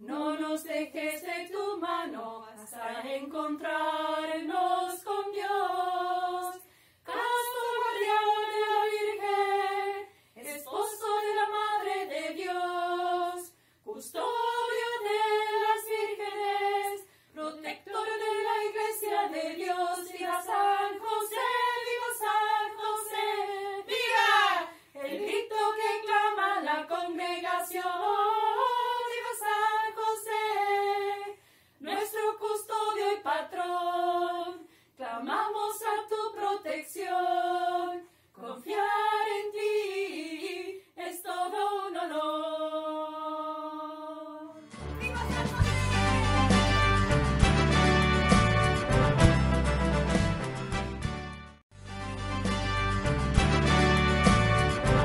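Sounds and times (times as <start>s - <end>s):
women singing in harmony: 0.0s - 46.9s.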